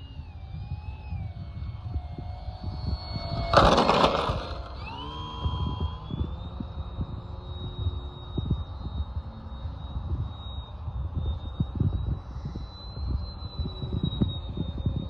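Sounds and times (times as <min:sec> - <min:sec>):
model plane motor whining: 0:00.0 - 0:15.0
wind on microphone: 0:00.0 - 0:15.0.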